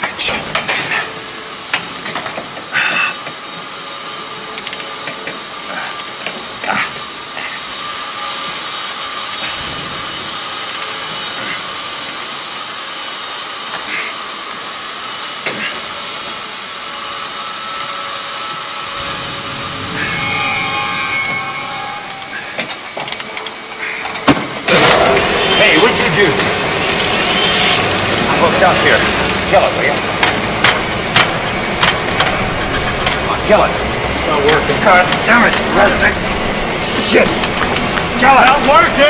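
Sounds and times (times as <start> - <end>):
machinery hissing: 0.0 - 39.0
metal grinding: 0.0 - 39.0
steady whine: 0.0 - 39.0.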